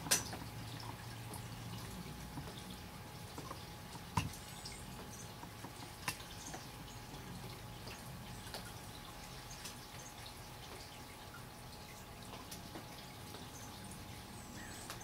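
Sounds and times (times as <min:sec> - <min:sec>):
water dripping from trees: 0:00.0 - 0:15.0.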